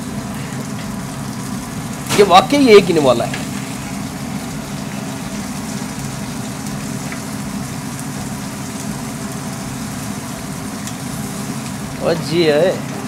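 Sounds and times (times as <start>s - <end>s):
food sizzling on griddle: 0.0s - 13.0s
low mechanical hum: 0.0s - 13.0s.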